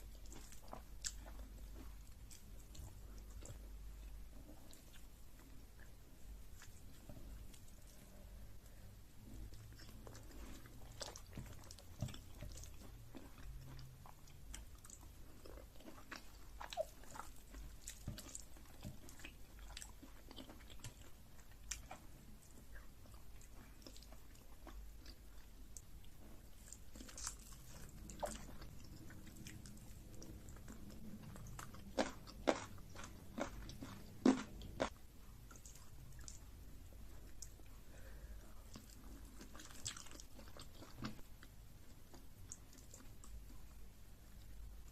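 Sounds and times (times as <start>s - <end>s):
person chewing: 0.0s - 44.7s.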